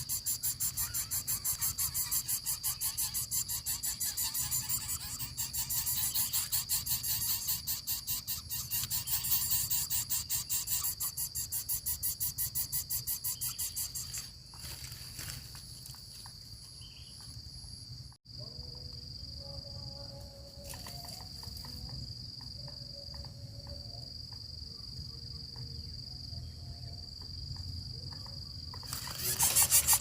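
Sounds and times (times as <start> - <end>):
high-pitched insect whine: 0.0 - 30.0
insect pulsing chirr: 0.0 - 30.0.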